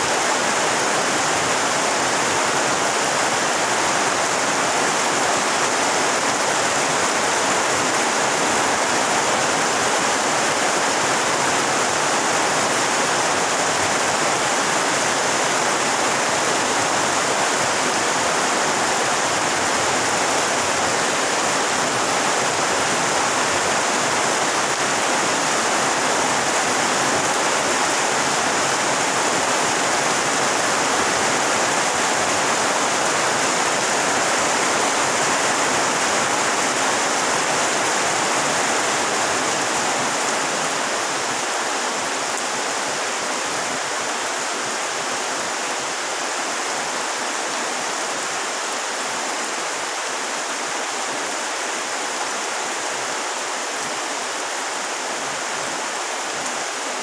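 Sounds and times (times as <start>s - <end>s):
heavy rain on pond and vegetation: 0.0s - 57.0s.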